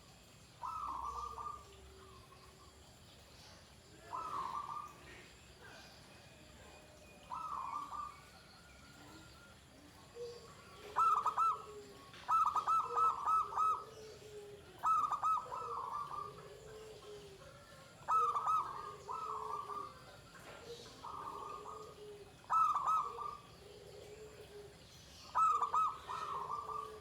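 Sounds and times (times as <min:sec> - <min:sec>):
dove cooing: 0:00.6 - 0:02.6, 0:04.0 - 0:05.8, 0:06.5 - 0:08.3, 0:08.9 - 0:27.0.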